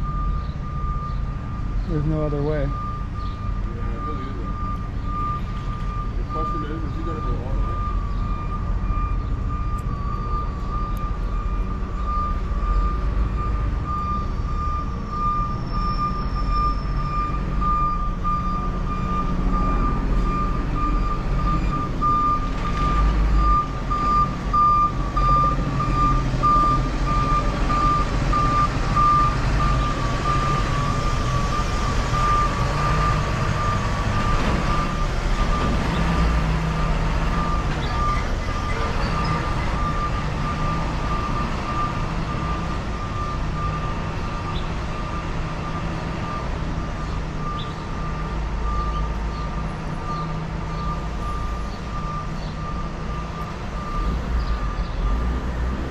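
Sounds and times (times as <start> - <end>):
truck backup alarm beeping: 0.0 - 55.9
truck engine rumble: 0.0 - 55.9.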